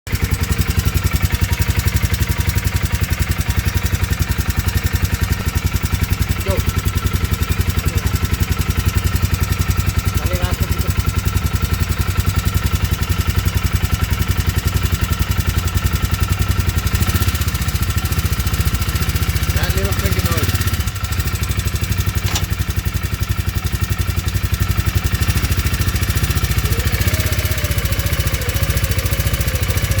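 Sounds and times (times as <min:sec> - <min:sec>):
engine idling with knocking: 0:00.1 - 0:30.0.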